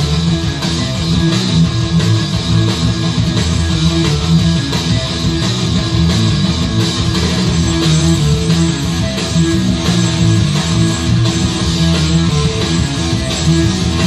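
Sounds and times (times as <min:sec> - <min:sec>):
heavy metal music: 0:00.0 - 0:14.0.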